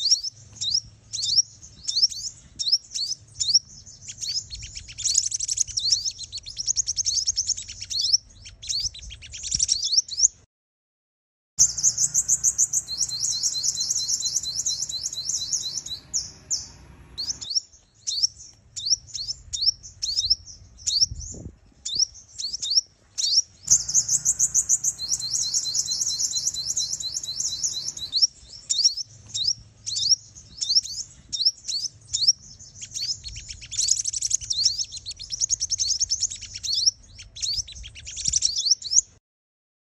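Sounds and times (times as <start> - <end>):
bird twittering chirps and trills: 0.0 - 10.4, 11.6 - 39.1.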